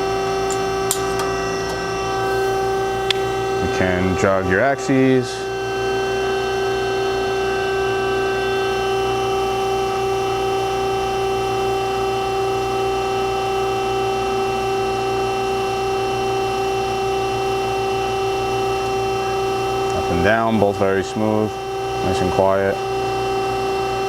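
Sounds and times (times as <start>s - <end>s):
surface grinder humming and whining: 0.0s - 24.0s.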